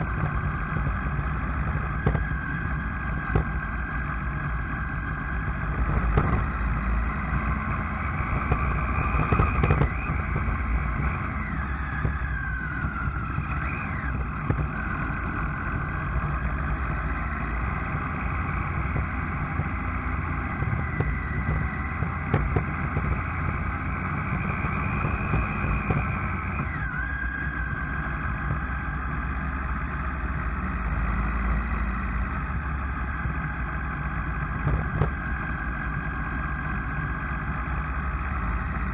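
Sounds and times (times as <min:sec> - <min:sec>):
climbing whine: 0:00.0 - 0:38.9
vehicle driving rumble: 0:00.0 - 0:38.9.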